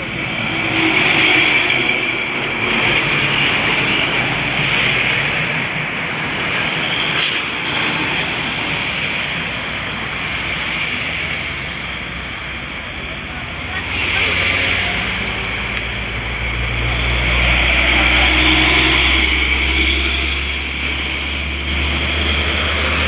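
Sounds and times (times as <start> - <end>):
road vehicle running: 0.0 - 23.0.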